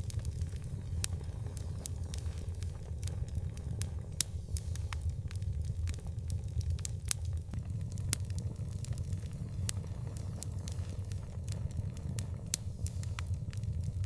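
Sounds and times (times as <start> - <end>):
low rumble: 0.0 - 14.0
wood fire crackling: 0.0 - 14.0.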